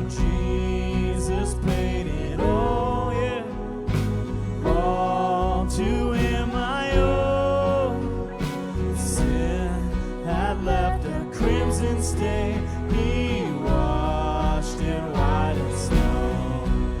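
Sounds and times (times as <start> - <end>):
band playing worship song: 0.0 - 17.0
person singing: 0.0 - 17.0.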